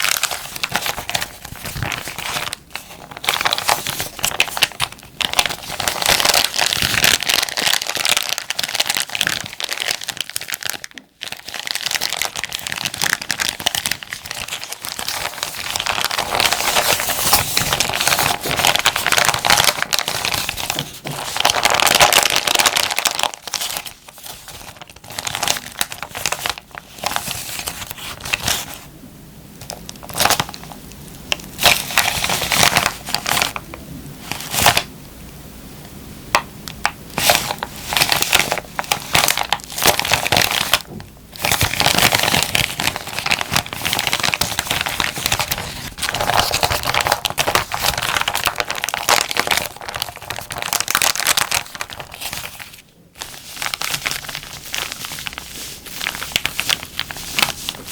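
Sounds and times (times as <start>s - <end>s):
plastic bag crinkling: 0.0s - 28.9s, 29.6s - 34.9s, 36.3s - 57.9s.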